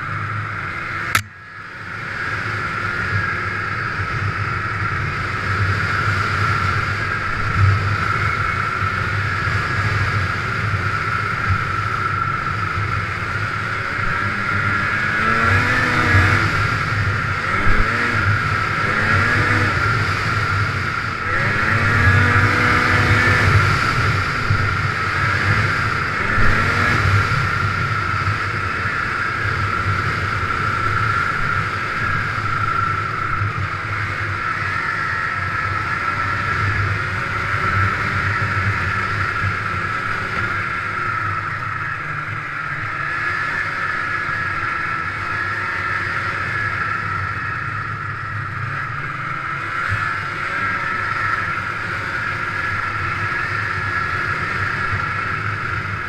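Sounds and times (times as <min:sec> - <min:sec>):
snowmobile engine whining: 0:00.0 - 0:56.0.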